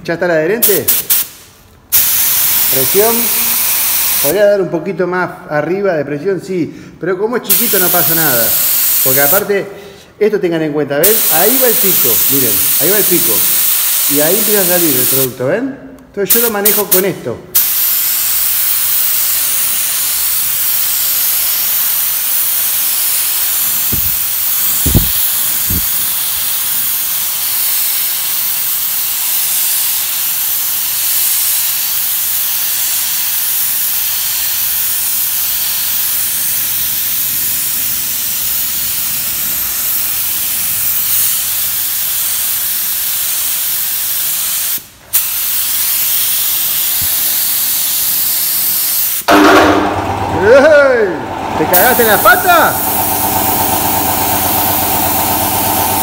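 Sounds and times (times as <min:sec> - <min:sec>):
spray gun hissing: 0:00.7 - 0:04.3, 0:07.5 - 0:09.4, 0:11.0 - 0:15.4, 0:17.6 - 0:49.3, 0:51.7 - 0:56.0.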